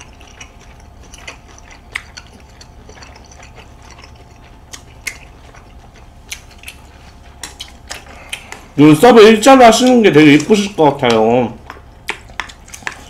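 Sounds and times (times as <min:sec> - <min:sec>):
low background hum: 0:00.0 - 0:13.0
people chewing: 0:00.0 - 0:13.0.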